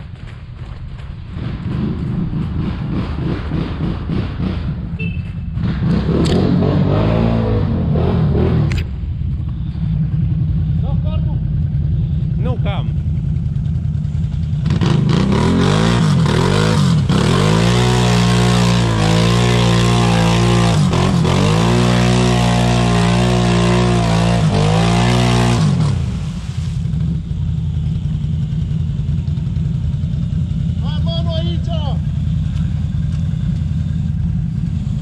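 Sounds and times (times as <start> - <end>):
atv engine revving: 1.3 - 8.9, 9.8 - 35.0.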